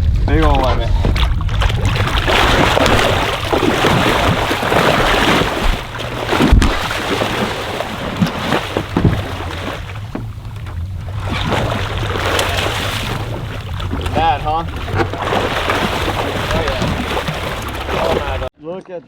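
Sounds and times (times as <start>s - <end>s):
boat motor humming: 0.0s - 18.5s
water rushing past hull: 0.0s - 18.5s.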